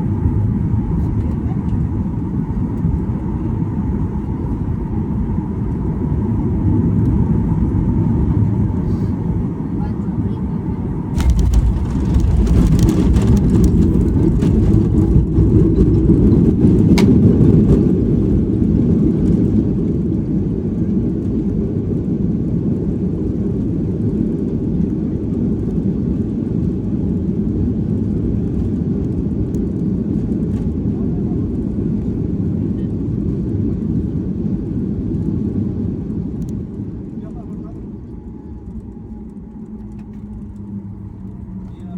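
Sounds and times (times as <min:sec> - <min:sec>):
wheels on runway: 0:00.0 - 0:20.4, 0:22.6 - 0:41.9
jet engines reverse thrust rumble: 0:00.0 - 0:41.9.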